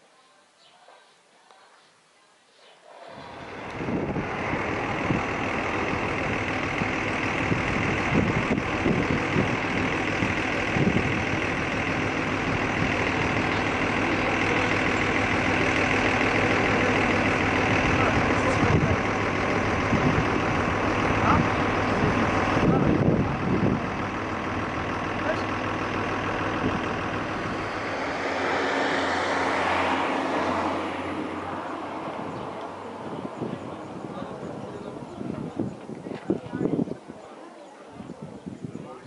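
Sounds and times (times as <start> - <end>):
large vehicle engine running: 2.9 - 39.0.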